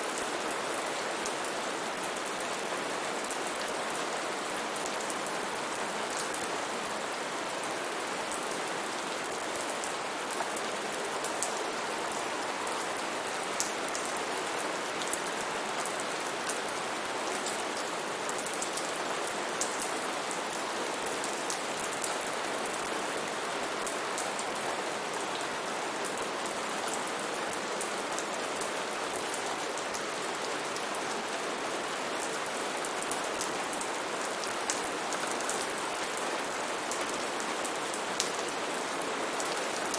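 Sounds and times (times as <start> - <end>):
heavy rain on foliage: 0.0 - 39.9.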